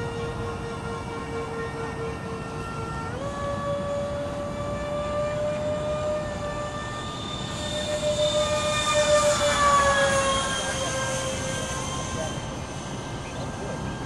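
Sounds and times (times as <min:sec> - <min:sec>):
model jet electric motor whine: 0:00.0 - 0:14.0.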